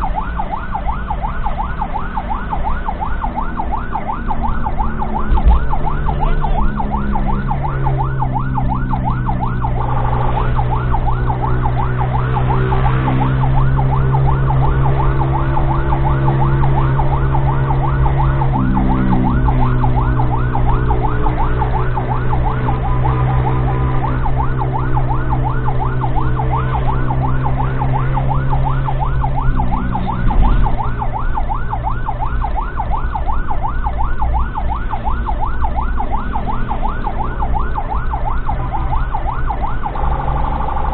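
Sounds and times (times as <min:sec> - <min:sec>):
ambulance siren yelping: 0:00.0 - 0:40.9
low vehicle drone: 0:00.0 - 0:40.9.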